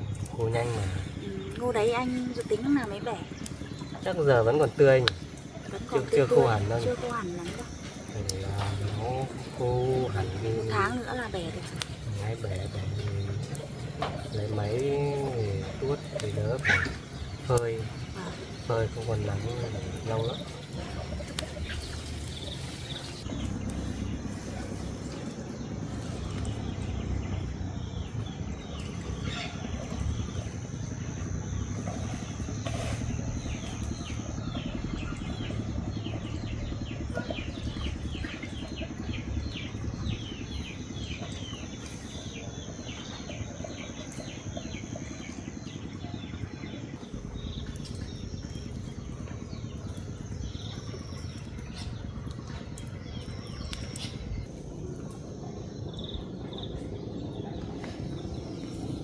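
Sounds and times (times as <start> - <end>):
birds chirping: 0.0 - 59.0
steady low rumble: 0.0 - 59.0.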